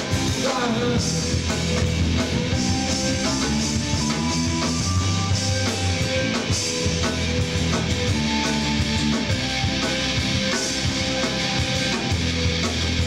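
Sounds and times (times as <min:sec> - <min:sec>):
drum kit: 0:00.0 - 0:13.0
electric guitars: 0:00.0 - 0:13.0.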